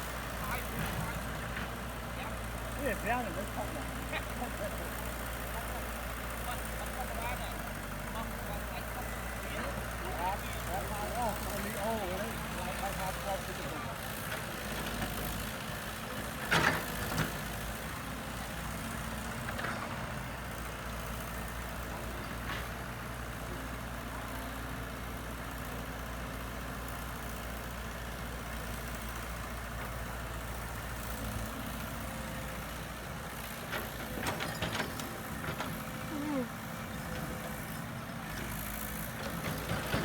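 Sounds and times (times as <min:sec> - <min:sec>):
heavy equipment engine running: 0:00.0 - 0:40.0.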